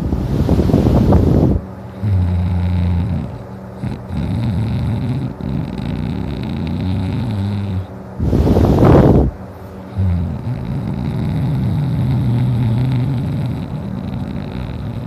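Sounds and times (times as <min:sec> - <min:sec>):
heavy snoring breath: 0:01.0 - 0:15.0.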